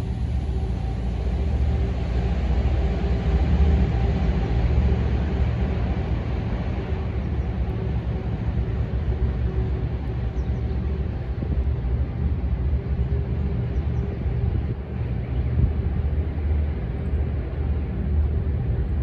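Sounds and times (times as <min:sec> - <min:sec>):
tank engine droning: 0:00.0 - 0:19.0.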